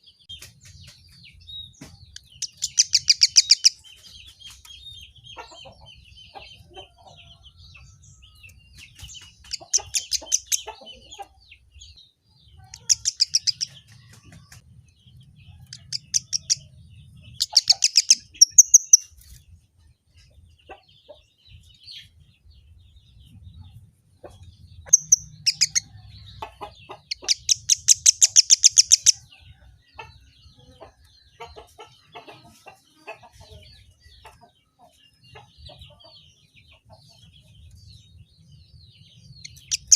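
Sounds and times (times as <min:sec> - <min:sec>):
soft bird chirps: 0:01.4 - 0:39.9.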